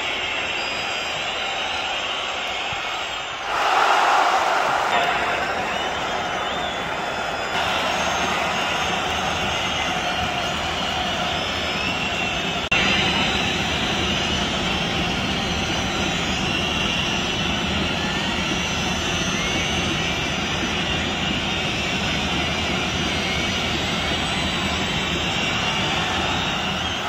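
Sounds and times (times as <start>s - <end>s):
stadium crowd din: 0.0s - 27.0s
whistling: 0.0s - 27.0s.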